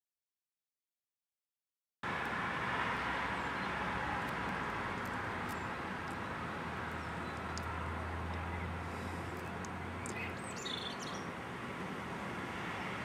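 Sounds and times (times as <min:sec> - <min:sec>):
distant noise hiss: 0:02.1 - 0:13.0.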